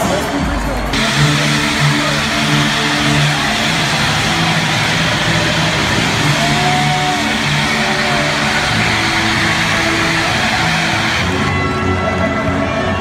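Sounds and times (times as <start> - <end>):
large crowd din: 0.0 - 13.0
pyrotechnic jets rushing: 1.0 - 11.5.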